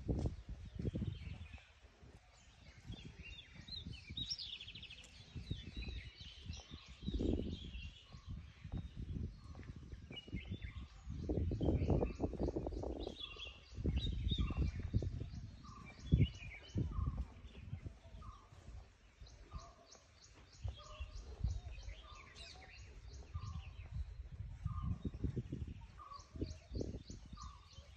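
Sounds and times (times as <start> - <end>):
low rumbling microphone noise: 0.0 - 19.6, 20.2 - 27.9
birds chirping and calling: 0.0 - 27.9.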